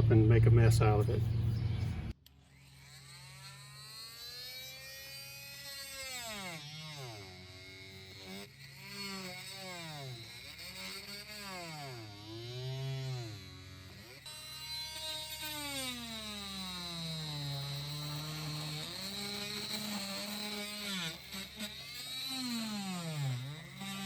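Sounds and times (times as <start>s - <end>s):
oscillating multi-tool cutting wood: 1.3s - 24.0s.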